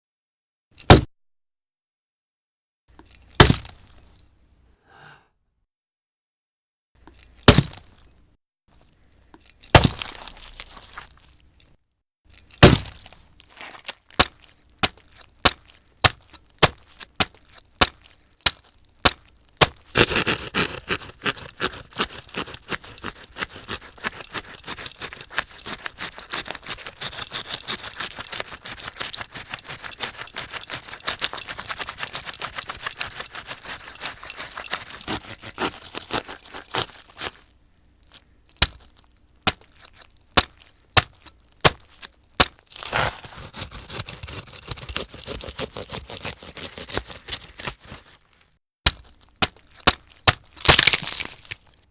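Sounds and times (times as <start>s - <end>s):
crackling crunching and tearing: 7.0s - 11.7s, 12.3s - 51.9s.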